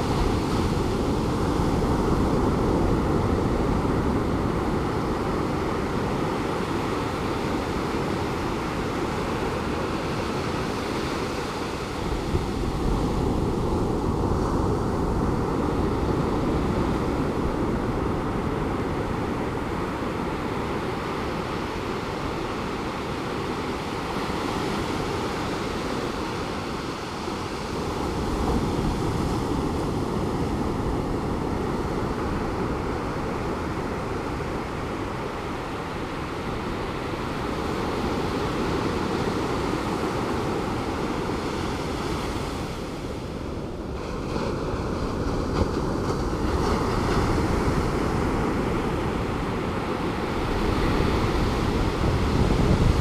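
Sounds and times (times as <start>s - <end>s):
wind on the microphone: 0.0s - 53.0s.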